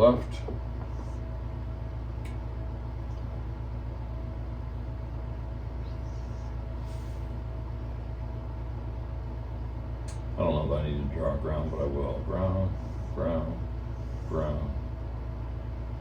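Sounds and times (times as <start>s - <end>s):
machinery drone with whine: 0.0s - 16.0s.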